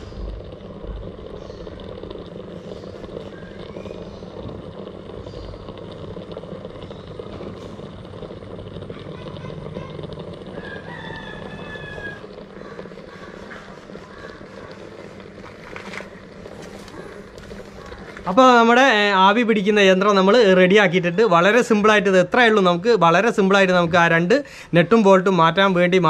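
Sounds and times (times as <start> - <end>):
birds calling: 0.0 - 8.0, 8.8 - 22.6
steam vaporizer humming: 0.0 - 26.0.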